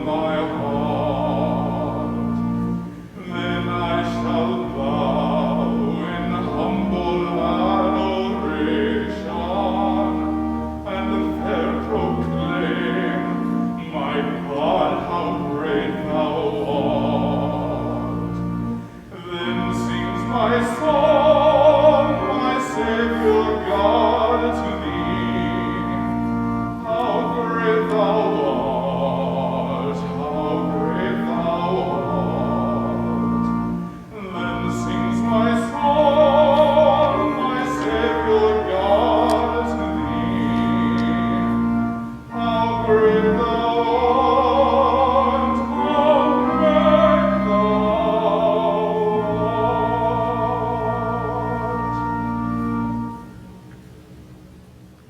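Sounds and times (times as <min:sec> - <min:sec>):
classical singing with vibrato: 0:00.0 - 0:54.9
sustained accompanying chords: 0:00.0 - 0:55.0.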